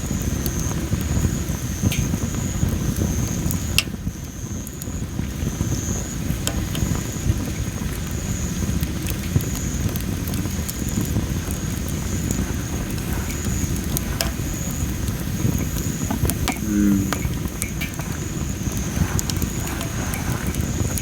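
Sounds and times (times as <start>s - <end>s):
fire low rumble: 0.0s - 21.0s
wood fire crackling and popping: 0.0s - 21.0s.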